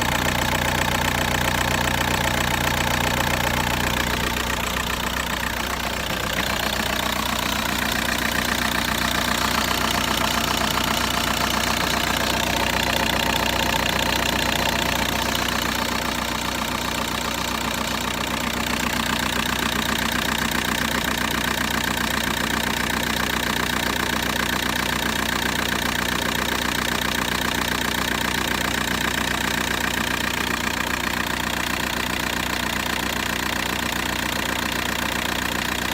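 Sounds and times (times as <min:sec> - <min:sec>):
diesel engine idling with knock: 0:00.0 - 0:35.9.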